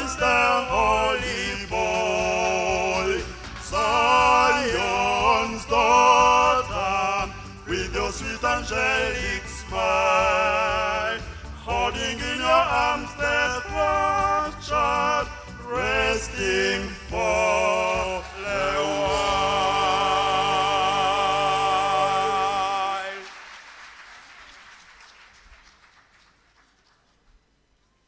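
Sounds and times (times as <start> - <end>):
choir singing a hymn: 0.0 - 23.4.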